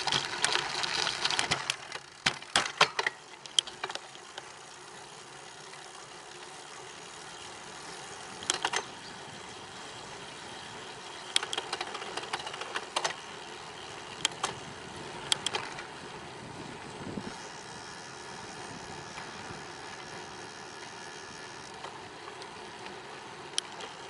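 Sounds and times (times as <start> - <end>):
bicycle clicks and rattles: 0.0 - 24.0
wind and tyre noise: 0.0 - 24.0.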